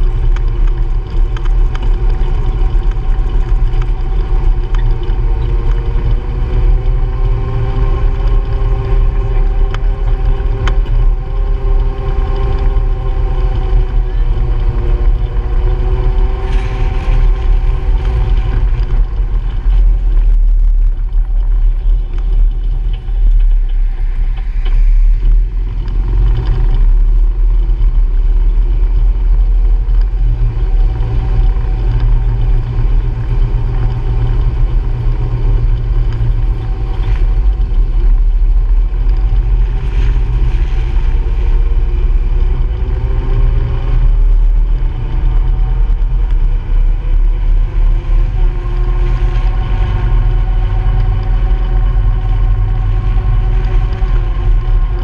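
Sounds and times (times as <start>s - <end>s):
utility vehicle engine rumbling: 0.0s - 55.0s.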